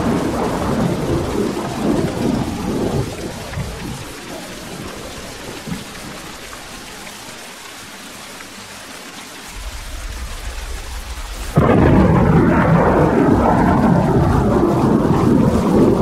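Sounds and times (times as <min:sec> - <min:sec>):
thunder rumbling: 0:00.0 - 0:06.9, 0:09.5 - 0:16.0
steady rain: 0:00.0 - 0:16.0.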